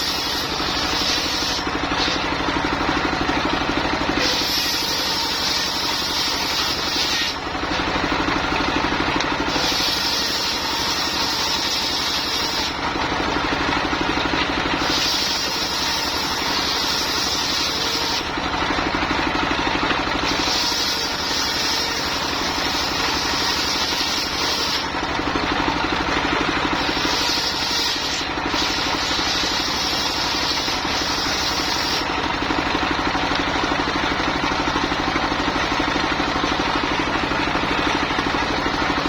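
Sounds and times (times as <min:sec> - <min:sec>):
saw blade cutting wood: 0:00.0 - 0:39.0
sawmill engine running: 0:00.0 - 0:39.0.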